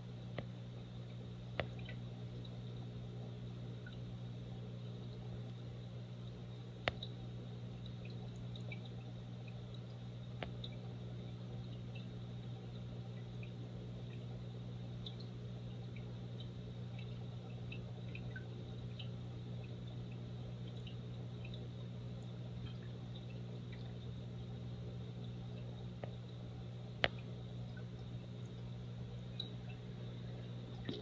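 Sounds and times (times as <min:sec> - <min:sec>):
aquarium filter humming: 0:00.0 - 0:31.0
water drips: 0:00.2 - 0:31.0
small ticks: 0:00.3 - 0:31.0.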